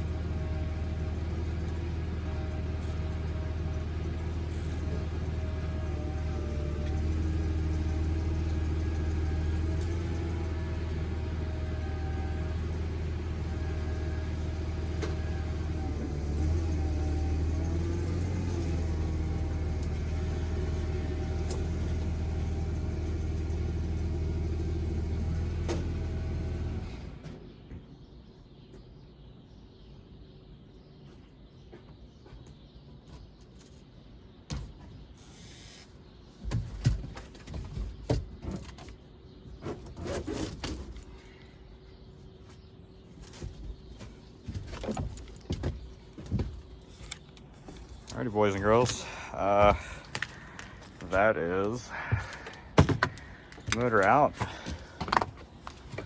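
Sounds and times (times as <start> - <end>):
forklift engine running: 0.0 - 27.8, 37.9 - 56.0.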